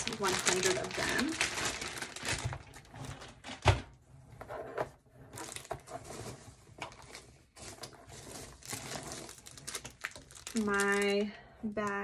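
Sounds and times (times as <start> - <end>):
packaging rustling: 0.0 - 4.0, 5.3 - 12.0.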